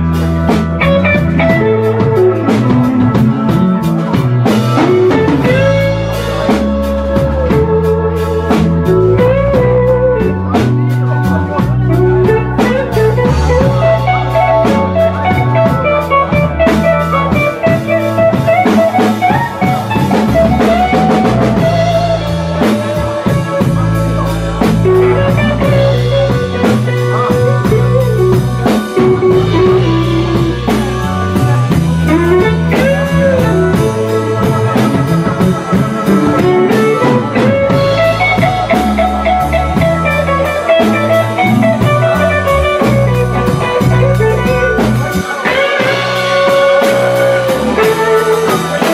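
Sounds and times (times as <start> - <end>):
drums: 0.0 - 48.9
electric guitar lead with bent notes: 0.0 - 48.9
keyboard: 0.0 - 48.9.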